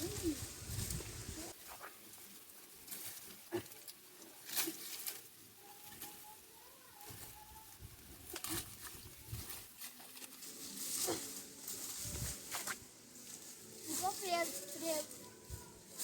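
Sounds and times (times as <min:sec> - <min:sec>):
rustling in dry leaves: 0:00.0 - 0:16.0.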